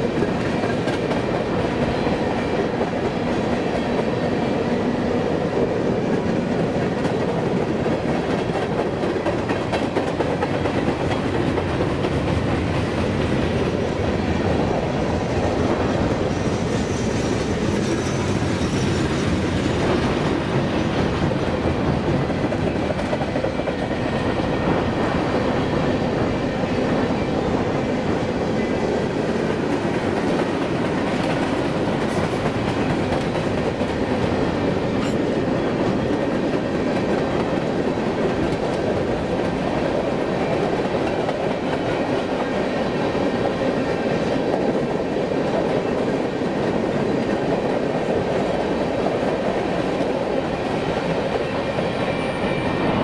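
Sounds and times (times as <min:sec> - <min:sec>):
steel wheels rumbling on rail: 0:00.0 - 0:53.0.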